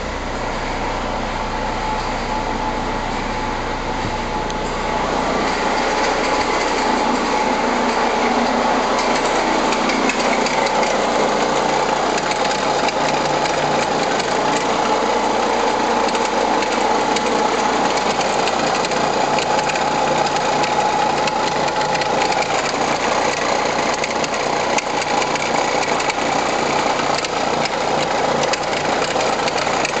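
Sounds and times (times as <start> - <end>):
diesel engine clattering: 0.0 - 30.0
engine whine: 0.0 - 30.0.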